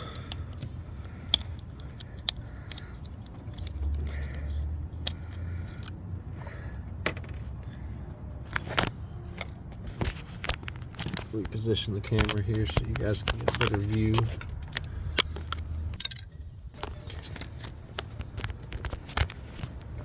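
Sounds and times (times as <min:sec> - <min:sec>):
plastic connectors clicking and rattling: 0:00.0 - 0:07.8, 0:08.5 - 0:20.0.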